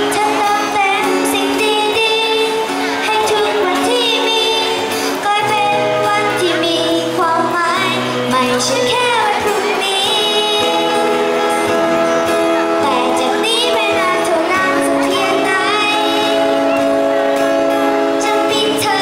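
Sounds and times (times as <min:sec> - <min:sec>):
acoustic guitars: 0:00.0 - 0:19.0
boy singing into a microphone: 0:00.0 - 0:19.0.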